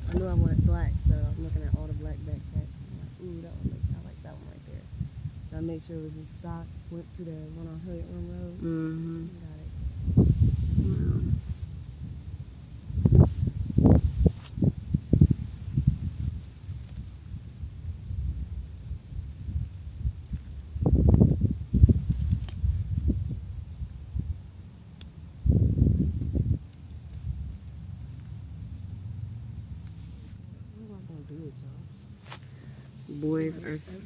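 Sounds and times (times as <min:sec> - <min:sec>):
low rumbling thumps: 0:00.0 - 0:08.6, 0:09.6 - 0:24.4, 0:25.4 - 0:31.9
insects chirping: 0:00.0 - 0:34.0.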